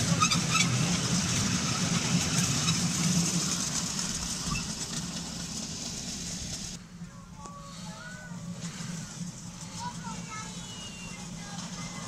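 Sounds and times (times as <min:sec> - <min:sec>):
miniature train rolling past: 0:00.0 - 0:12.0.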